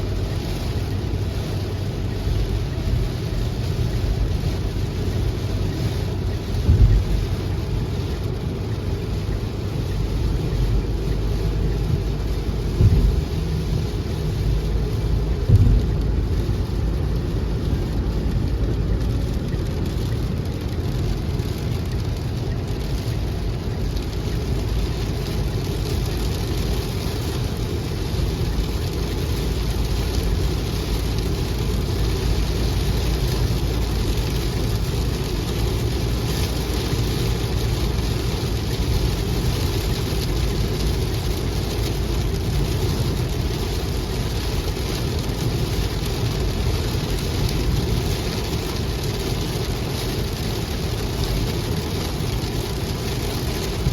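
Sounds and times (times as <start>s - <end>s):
deep low rumble: 0.0s - 53.9s
heavy rain: 0.0s - 53.9s.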